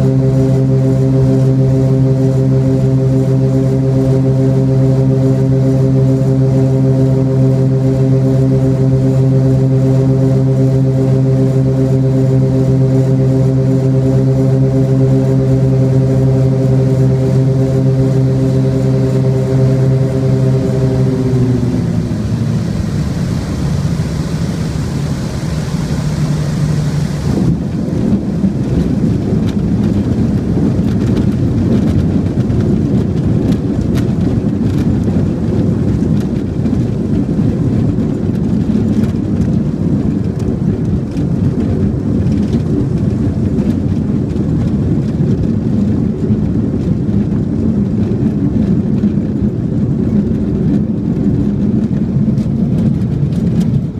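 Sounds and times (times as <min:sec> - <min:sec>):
light aircraft engine: 0:00.0 - 0:53.9
plane touching down: 0:00.0 - 0:53.9
wheels rumbling on dirt runway: 0:00.0 - 0:53.9.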